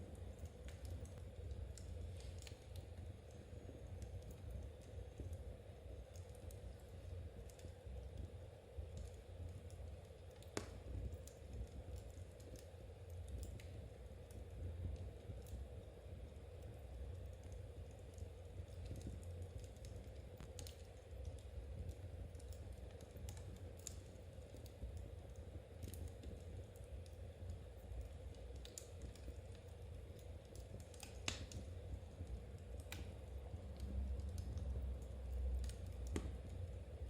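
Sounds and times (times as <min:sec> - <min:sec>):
low steady hum: 0:00.0 - 0:37.0
wood fire crackling: 0:00.0 - 0:37.0.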